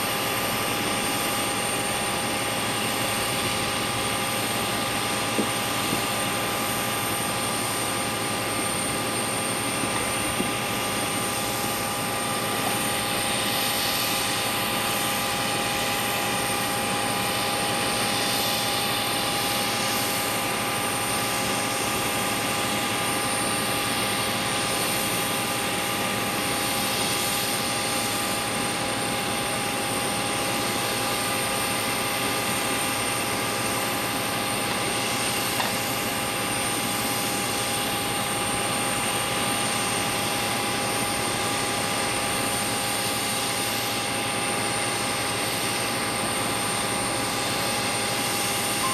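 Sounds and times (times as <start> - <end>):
turbine whine: 0.0 - 48.9.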